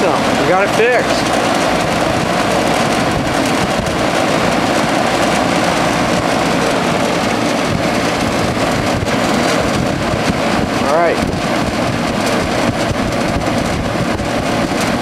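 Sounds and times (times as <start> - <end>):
air conditioner fan rushing: 0.0 - 15.0.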